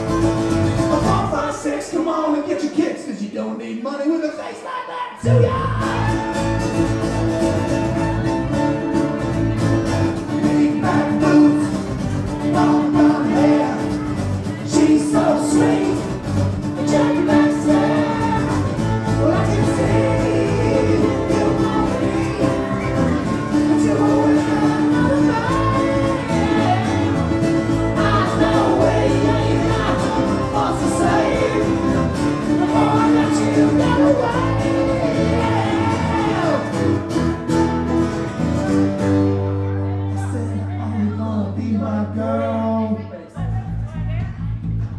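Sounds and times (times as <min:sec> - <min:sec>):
electric bass: 0:00.0 - 0:01.5, 0:05.3 - 0:44.9
acoustic guitar: 0:00.0 - 0:03.1, 0:05.2 - 0:44.9.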